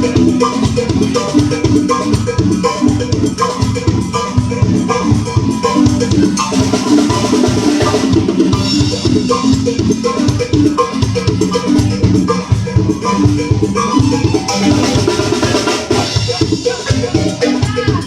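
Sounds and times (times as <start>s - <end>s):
bass line: 0.0s - 18.0s
drum-kit beat: 0.0s - 18.0s.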